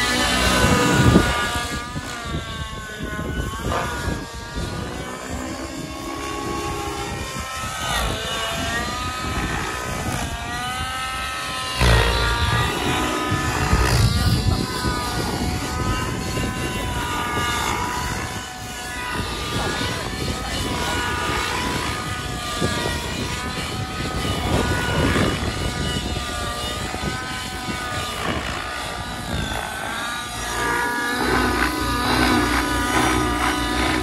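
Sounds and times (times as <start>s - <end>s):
rc helicopter engine: 0.0s - 34.0s
wind buffeting microphone: 0.0s - 34.0s.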